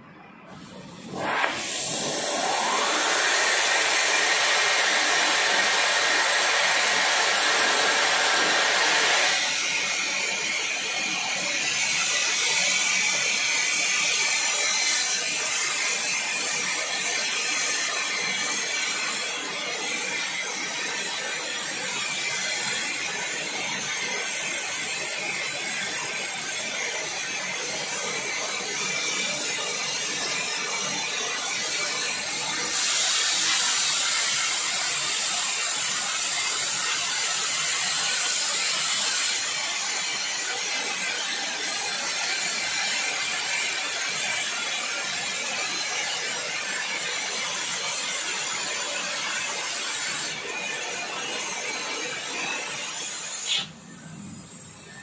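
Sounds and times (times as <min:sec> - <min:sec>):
cutting torch hissing: 0:00.5 - 0:55.0.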